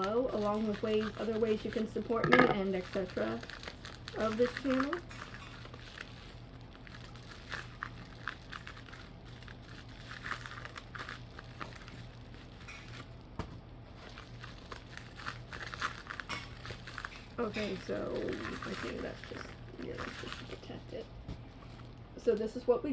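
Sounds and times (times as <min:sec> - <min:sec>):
small tearing sounds: 0:00.0 - 0:22.0
wrapping crinkling and rustling: 0:00.0 - 0:22.9.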